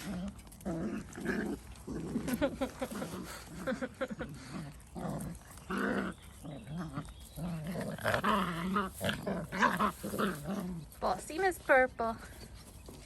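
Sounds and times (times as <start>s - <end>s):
puppies growling: 0.0s - 11.4s.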